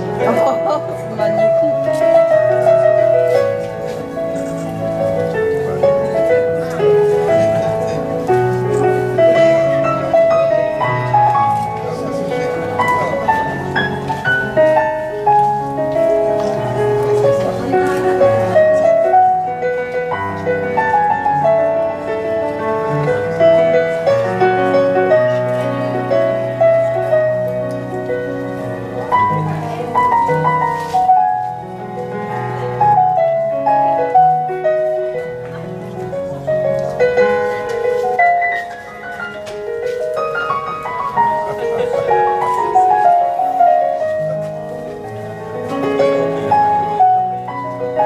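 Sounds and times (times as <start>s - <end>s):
electronic keyboard piano melody: 0.0s - 48.0s.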